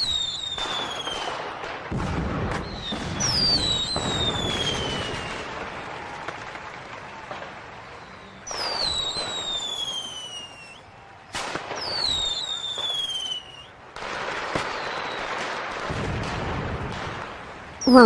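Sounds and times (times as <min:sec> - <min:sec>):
falling firework whistle: 0:00.0 - 0:15.9
fireworks bursting with crackle: 0:00.0 - 0:18.0.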